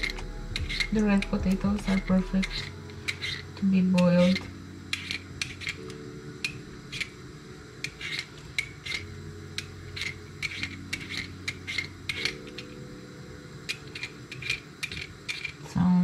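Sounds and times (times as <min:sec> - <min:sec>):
peeler scraping potato skin: 0:00.0 - 0:07.2, 0:07.8 - 0:12.8, 0:13.7 - 0:15.7
low steady hum: 0:00.0 - 0:16.0.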